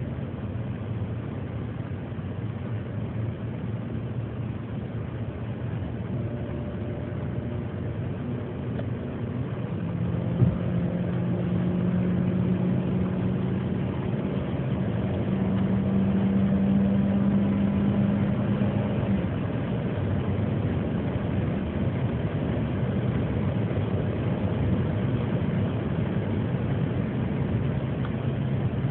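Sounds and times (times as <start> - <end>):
low engine hum: 0.0 - 28.9
road and wind noise: 0.0 - 28.9.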